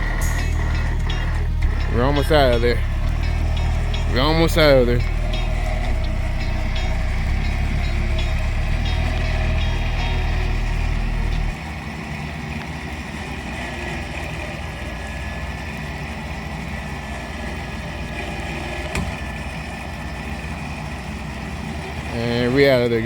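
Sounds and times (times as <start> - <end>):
electric winch droning: 0.0 - 23.0
vehicle engine idling: 0.0 - 23.0.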